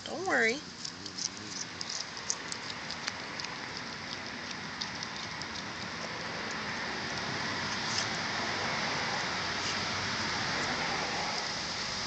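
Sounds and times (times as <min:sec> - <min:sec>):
cat crunching and chewing bone: 0:00.0 - 0:11.4.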